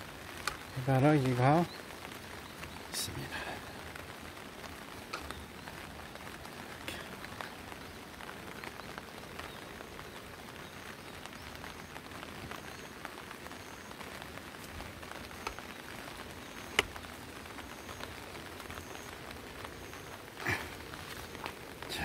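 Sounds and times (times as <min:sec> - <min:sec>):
raindrops ticking: 0:00.0 - 0:22.0
steady rainfall hiss: 0:00.0 - 0:22.0.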